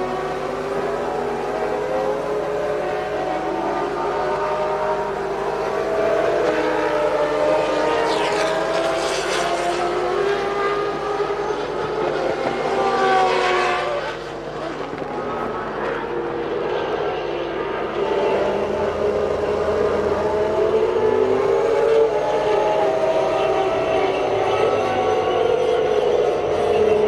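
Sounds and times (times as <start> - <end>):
racing car engines passing: 0.0 - 27.0.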